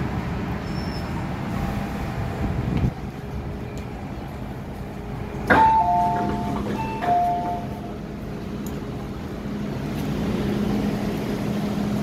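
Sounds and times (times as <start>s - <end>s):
train car humming: 0.0s - 12.0s.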